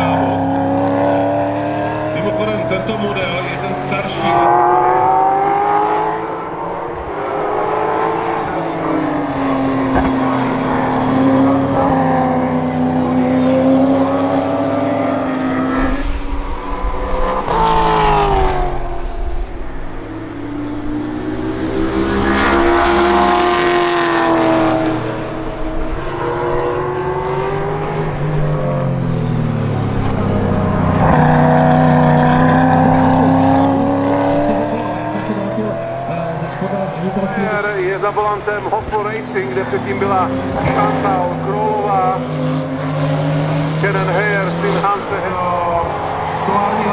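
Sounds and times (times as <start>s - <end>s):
car passing close: 0.0s - 46.9s
racing car engine: 0.0s - 46.9s.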